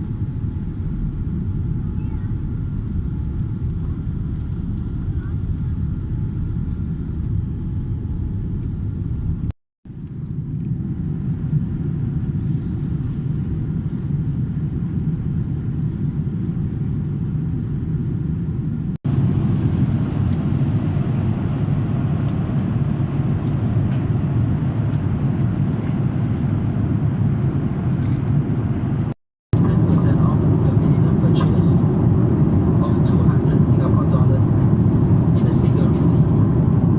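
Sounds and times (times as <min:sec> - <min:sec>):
airliner cabin rumble: 0:00.0 - 0:36.9.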